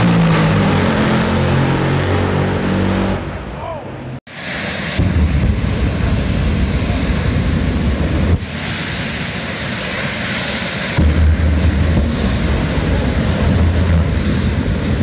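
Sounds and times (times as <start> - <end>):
jet engine high whine: 0.0 - 15.0.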